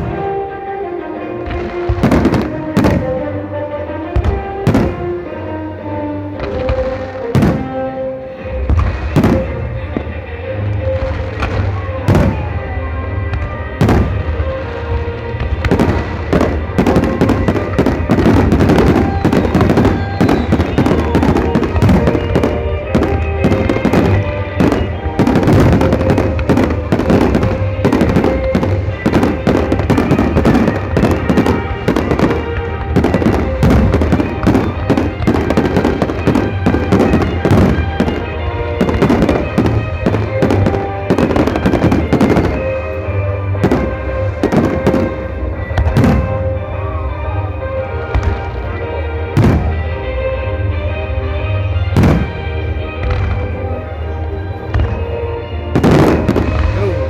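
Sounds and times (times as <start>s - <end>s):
fireworks exploding and crackling: 0.0s - 57.0s
music playing: 0.0s - 57.0s.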